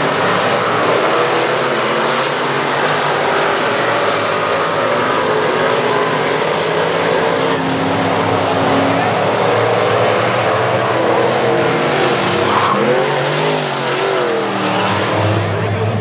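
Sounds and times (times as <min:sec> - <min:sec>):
cars passing by: 0:00.0 - 0:16.0
race car engines revving: 0:00.0 - 0:16.0.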